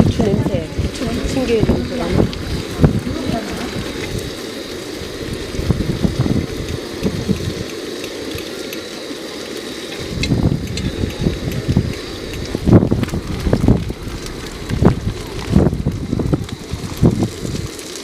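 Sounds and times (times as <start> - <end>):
wind buffeting microphone: 0.0 - 8.5, 10.0 - 17.8.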